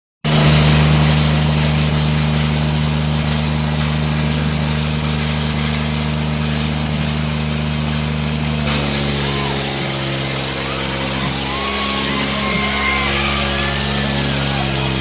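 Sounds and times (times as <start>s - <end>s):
tractor engine running: 0.3s - 15.0s.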